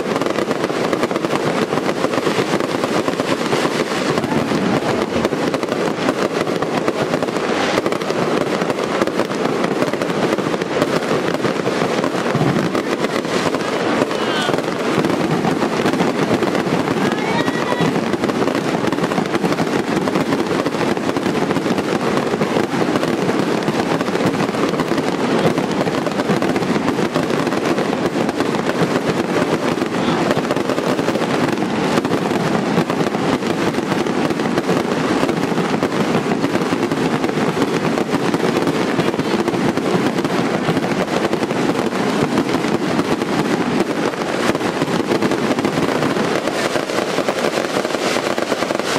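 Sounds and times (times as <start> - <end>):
fireworks crackling: 0.0 - 48.9.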